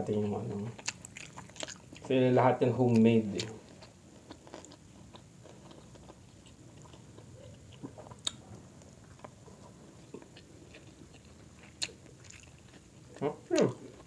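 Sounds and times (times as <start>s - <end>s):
people chewing food: 0.2s - 14.0s.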